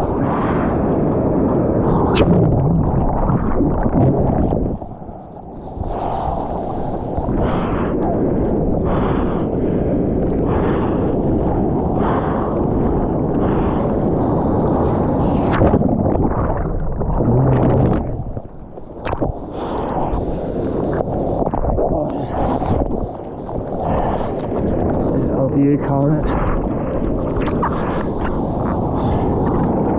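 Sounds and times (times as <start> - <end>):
whitewater churning underwater: 0.0 - 29.9.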